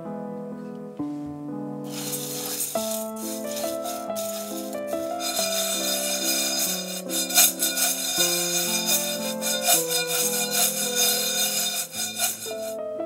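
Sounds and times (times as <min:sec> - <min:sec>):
music of held notes: 0:00.5 - 0:13.0
rice rattling in a hot pan: 0:01.9 - 0:12.8.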